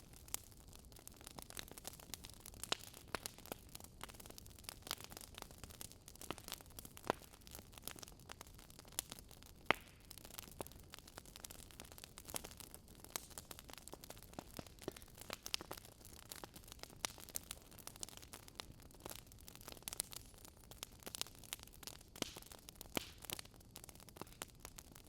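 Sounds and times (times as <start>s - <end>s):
burning logs crackling and popping: 0.0s - 25.0s.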